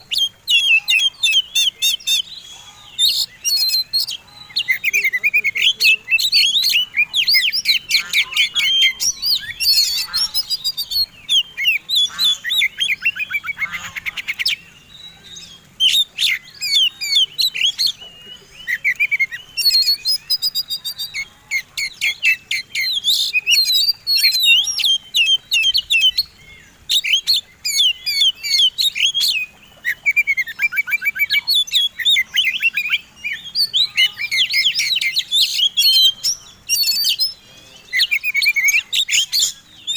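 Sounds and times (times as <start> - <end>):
songbird whistling and chattering: 0.0 - 39.9.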